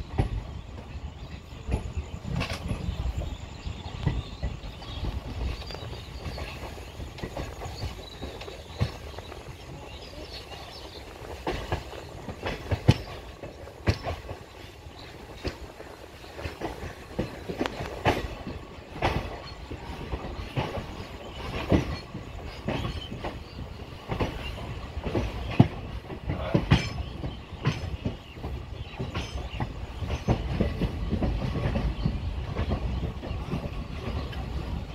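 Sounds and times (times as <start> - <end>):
train wheels clacking over rail joints: 0.0 - 34.9.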